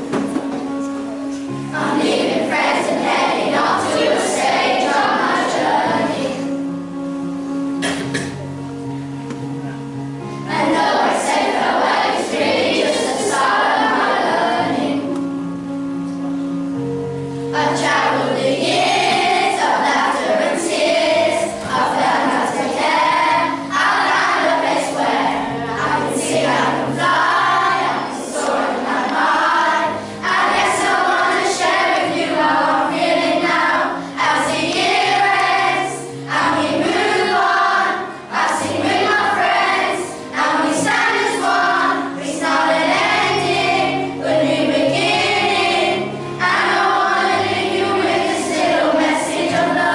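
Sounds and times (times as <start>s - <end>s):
children singing together: 0.0s - 8.5s, 9.6s - 15.9s, 16.6s - 49.9s
instrumental backing track: 0.0s - 49.9s.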